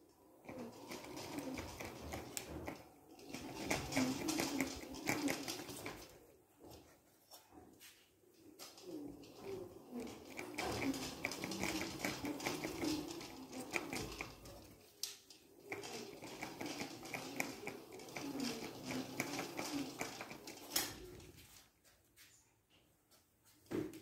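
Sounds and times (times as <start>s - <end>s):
scooter rolling over tiled floor: 0.0s - 21.7s
light clicks and rattling: 0.1s - 6.9s, 8.3s - 21.7s.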